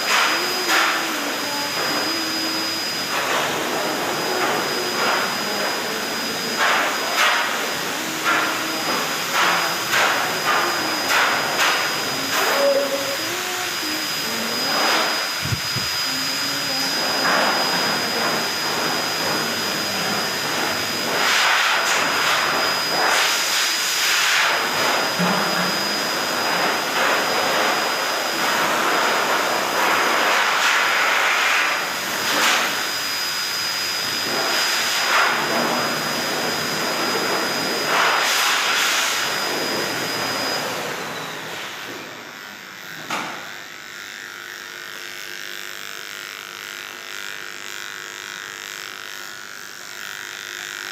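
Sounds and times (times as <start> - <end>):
whooshing motor with high whine: 0.0 - 30.9, 31.6 - 50.9
electric dog clippers buzzing: 0.0 - 50.9.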